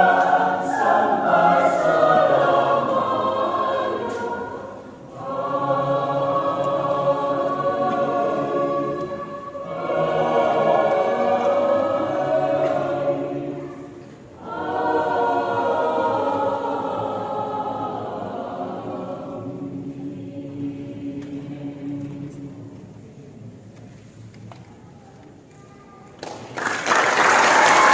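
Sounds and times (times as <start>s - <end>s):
mixed choir singing in harmony: 0.0s - 23.5s.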